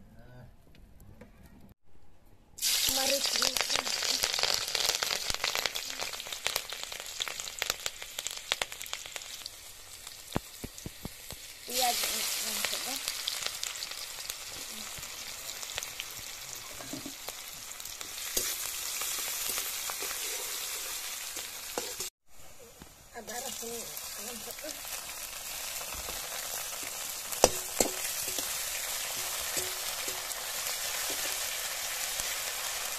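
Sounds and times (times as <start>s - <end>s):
hot oil crackling and sizzling: 2.6s - 32.9s
onions sizzling in oil: 2.6s - 32.9s.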